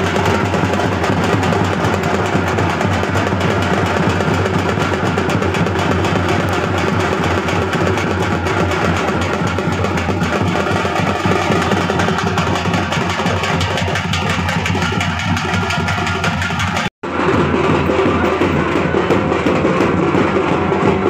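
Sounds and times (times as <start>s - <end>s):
drums beaten fast: 0.0s - 21.0s.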